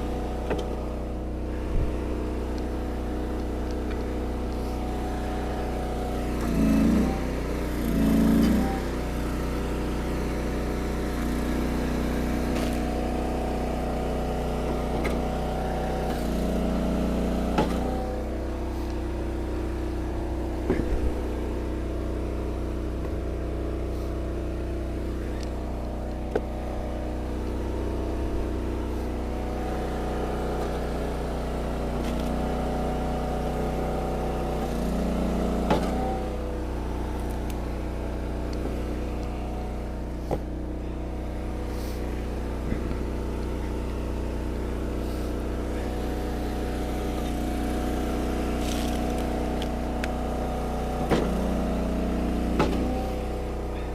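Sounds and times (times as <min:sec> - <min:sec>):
wood splitter engine running: 0:00.0 - 0:53.9.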